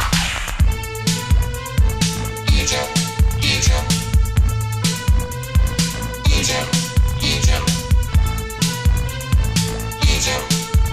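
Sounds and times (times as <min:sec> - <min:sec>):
music with heavy bass beat: 0:00.0 - 0:10.9.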